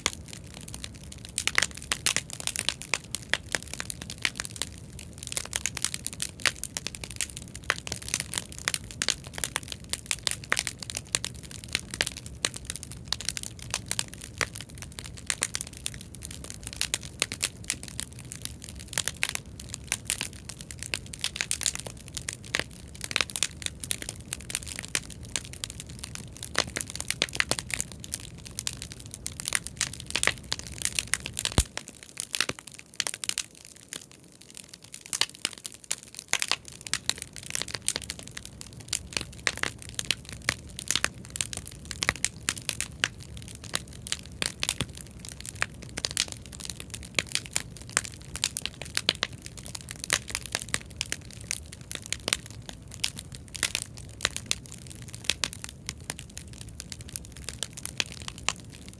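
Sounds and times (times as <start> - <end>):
bonfire crackling and popping: 0.0 - 58.9.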